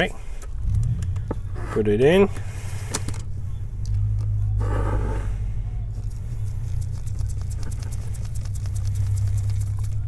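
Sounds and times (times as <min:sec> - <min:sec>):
low hum: 0:00.2 - 0:10.0.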